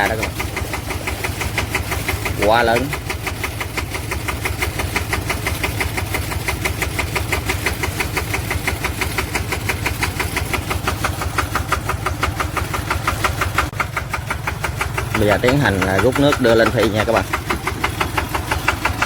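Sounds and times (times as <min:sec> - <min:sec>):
sprayer engine running: 0:00.0 - 0:19.0.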